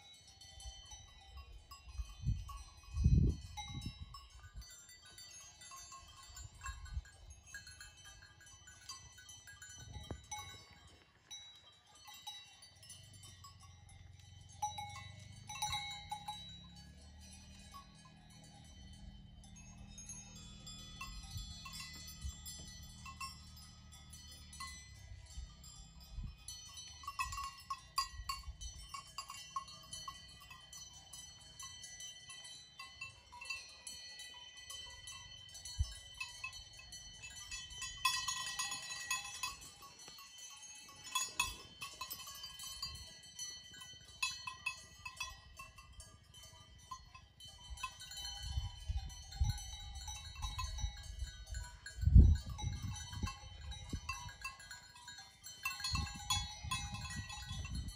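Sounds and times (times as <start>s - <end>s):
goat bells clinking: 0.0s - 57.9s.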